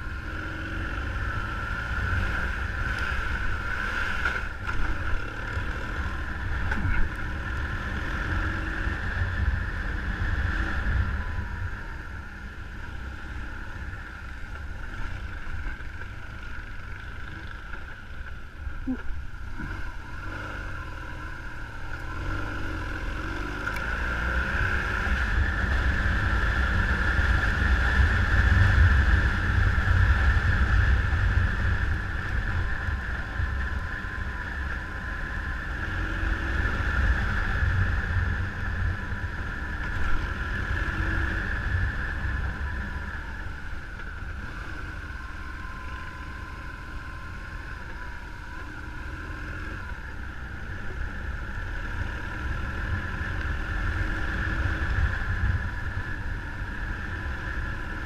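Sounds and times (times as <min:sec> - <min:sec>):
low wind rumble: 0:00.0 - 0:58.0.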